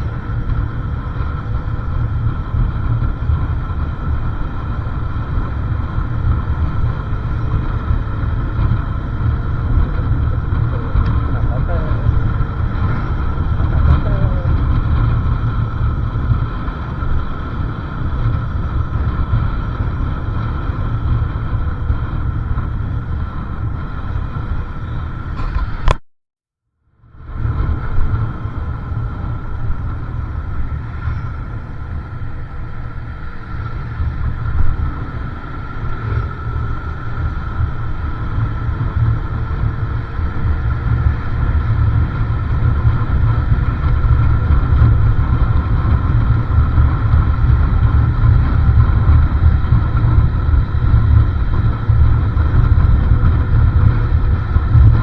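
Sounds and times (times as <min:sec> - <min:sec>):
motorcycle engine rumble: 0:00.0 - 0:26.0, 0:27.2 - 0:55.0.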